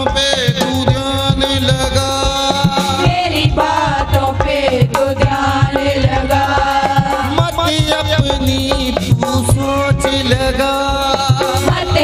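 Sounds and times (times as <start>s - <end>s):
hand drum beat: 0.0s - 12.0s.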